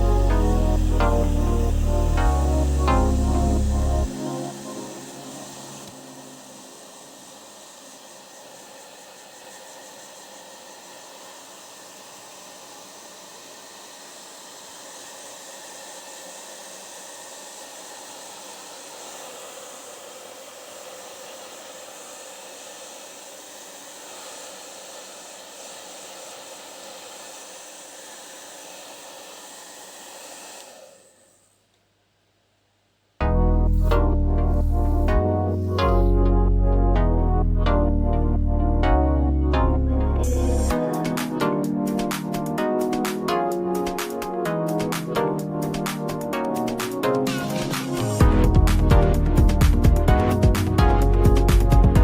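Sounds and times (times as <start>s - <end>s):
steady rushing hiss: 0.0s - 31.7s, 40.4s - 52.0s.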